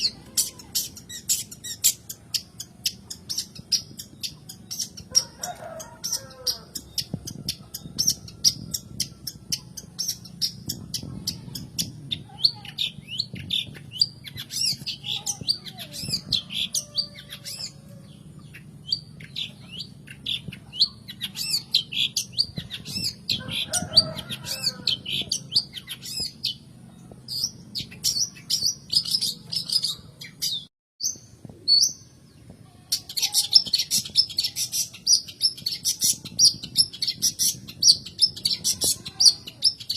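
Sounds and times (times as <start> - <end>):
bird chattering song: 0.0 - 32.2, 32.9 - 39.9.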